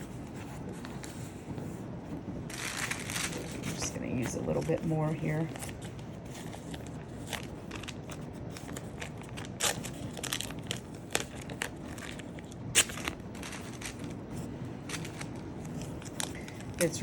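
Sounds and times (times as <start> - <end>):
tape and paper crinkling: 2.5 - 17.0.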